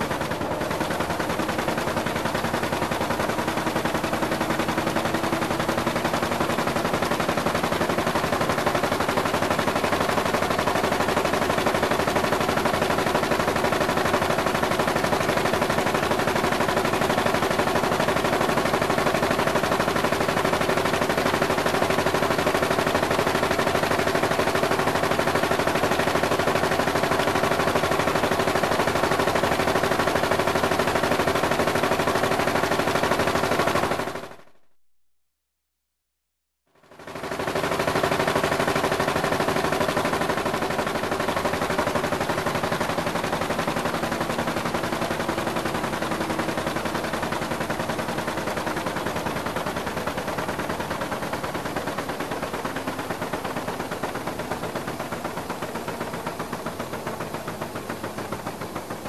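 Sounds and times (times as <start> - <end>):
rapid mechanical clatter: 0.0 - 34.6, 36.7 - 59.0.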